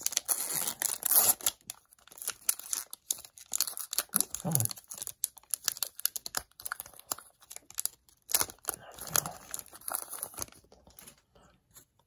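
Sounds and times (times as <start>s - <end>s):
wrapper tearing and crinkling: 0.0s - 11.1s.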